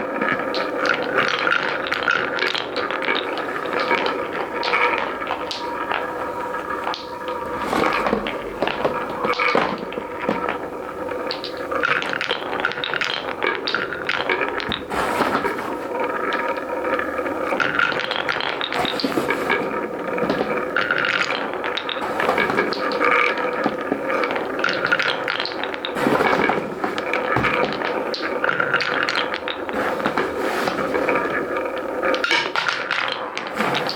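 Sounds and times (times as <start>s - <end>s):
marbles clattering on wooden track: 0.0s - 33.9s.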